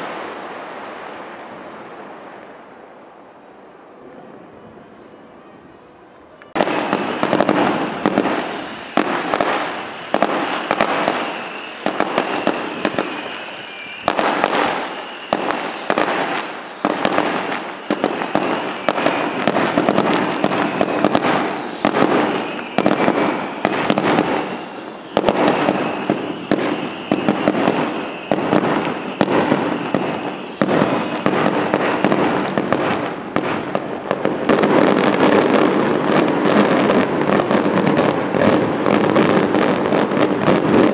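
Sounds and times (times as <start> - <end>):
fireworks bangs: 0.0 - 40.9
fireworks crackling: 0.0 - 40.9.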